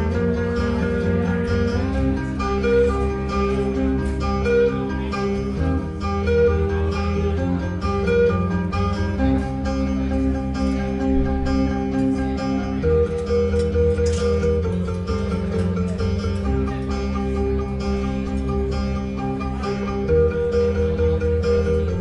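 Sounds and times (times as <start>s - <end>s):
looped instrumental guitar music: 0.0s - 22.0s.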